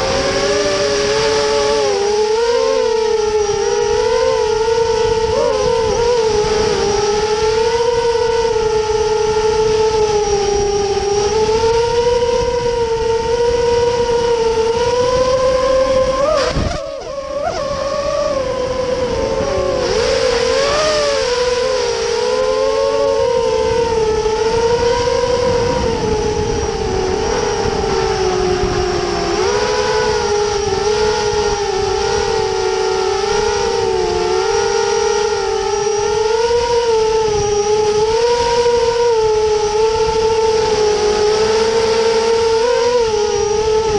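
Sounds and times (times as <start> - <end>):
drone motors whining: 0.0 - 43.9.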